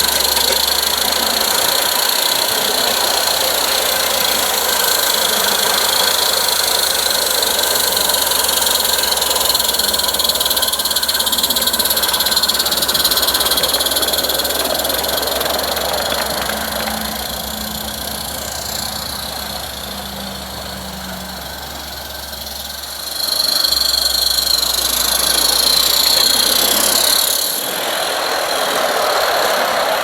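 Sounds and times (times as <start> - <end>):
steam hissing: 0.0 - 30.0
steam locomotive exhaust beat: 0.0 - 30.0.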